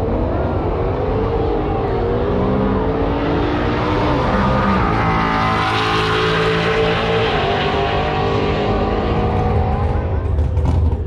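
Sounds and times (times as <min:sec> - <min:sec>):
racing car engines running hard: 0:00.0 - 0:11.0.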